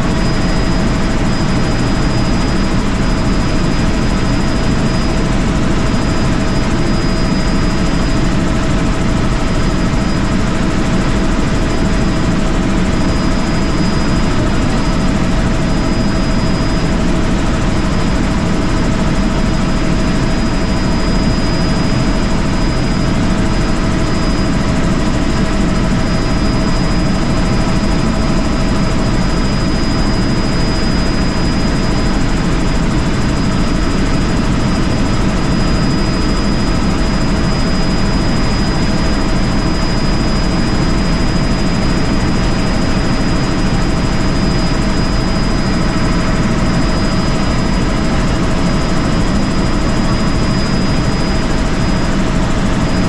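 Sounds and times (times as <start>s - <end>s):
helicopter rotor and engine: 0.0s - 53.0s
high-pitched whine: 0.0s - 53.0s.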